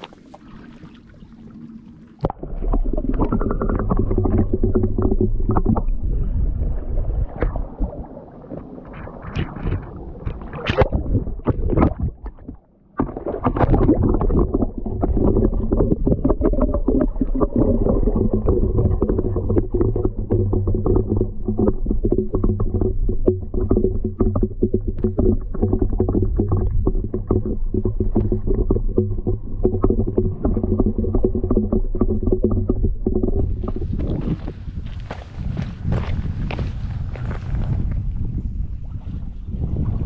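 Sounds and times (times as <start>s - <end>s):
muffled underwater rumble: 0.0s - 40.0s
water sloshing and gurgling: 0.0s - 40.0s.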